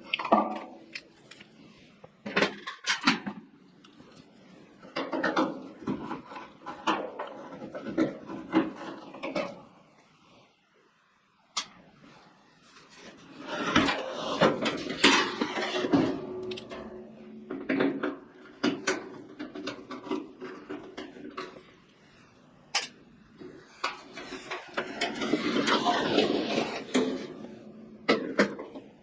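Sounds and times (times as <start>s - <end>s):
hands clicking and scraping parts: 0.0s - 9.6s, 12.9s - 22.0s, 22.6s - 29.0s.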